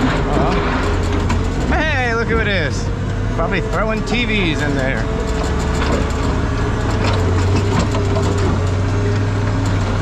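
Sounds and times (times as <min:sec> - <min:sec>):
diesel engine humming: 0:00.0 - 0:10.0
rattling and clattering: 0:00.0 - 0:10.0.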